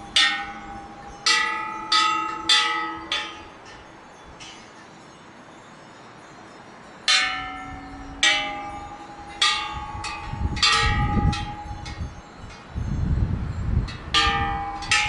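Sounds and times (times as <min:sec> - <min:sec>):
temple bells ringing: 0:00.0 - 0:15.0.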